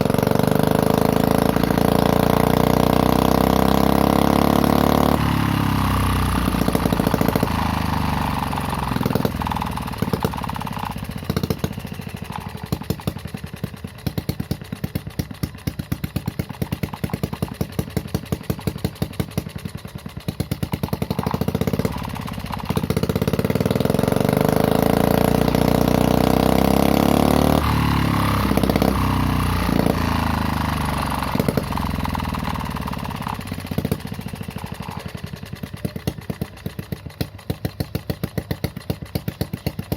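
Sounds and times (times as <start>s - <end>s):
small engine running with deep note: 0.0s - 39.9s.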